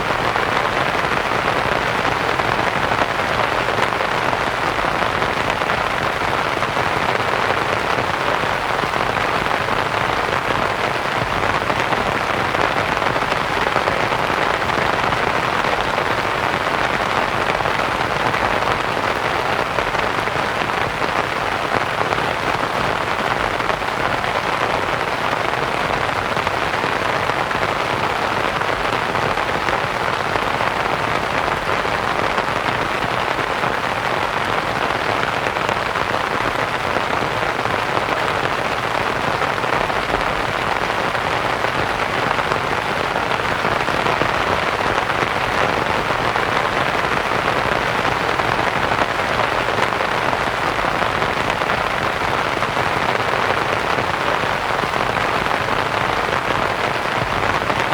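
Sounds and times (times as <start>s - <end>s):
rain pattering on a tent: 0.0s - 57.9s
white noise hiss: 0.0s - 57.9s.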